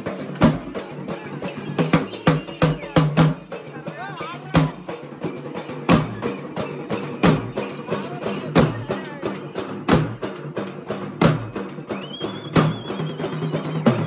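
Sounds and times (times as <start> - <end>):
steel drums beaten with sticks: 0.0 - 14.0.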